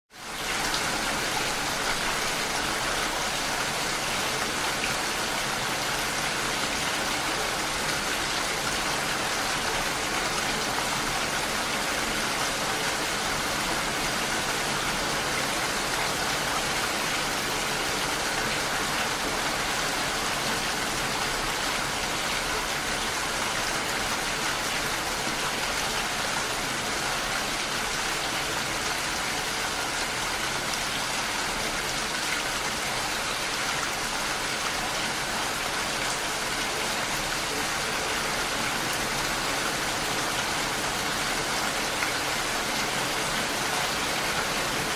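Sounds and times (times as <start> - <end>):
steady rainfall hiss: 0.2 - 44.9.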